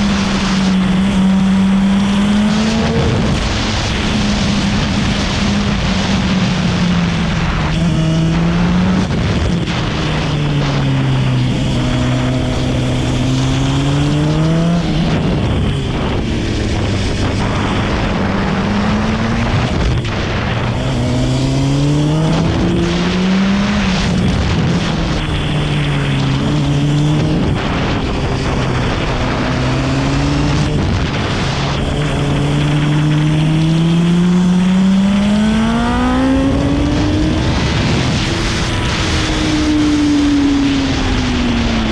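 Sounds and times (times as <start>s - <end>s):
motorcycle engine revving: 0.0s - 41.9s
steady rush of noise: 0.0s - 41.9s.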